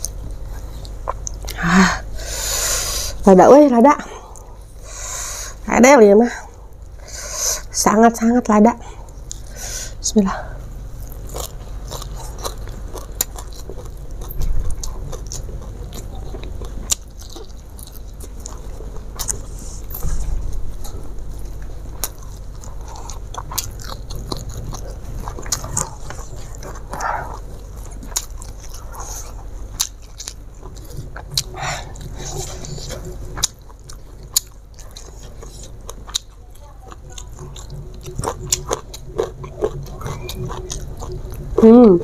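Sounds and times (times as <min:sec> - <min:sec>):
person chewing: 0:00.0 - 0:03.2, 0:09.0 - 0:10.0, 0:10.6 - 0:42.0
low steady hum: 0:00.0 - 0:42.0.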